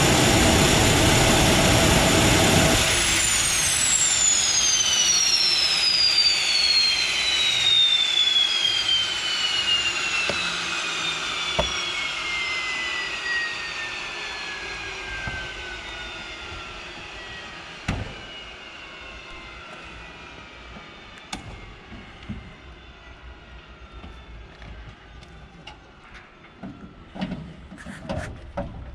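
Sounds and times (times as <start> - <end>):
turboprop engine winding down: 0.0 - 27.0.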